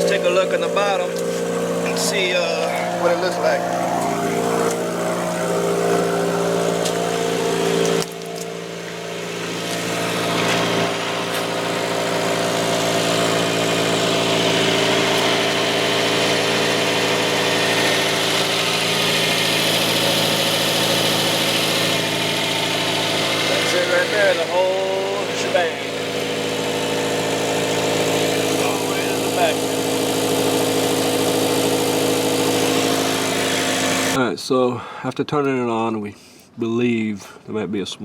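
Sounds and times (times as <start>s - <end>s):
car engine idling: 0.0s - 34.2s.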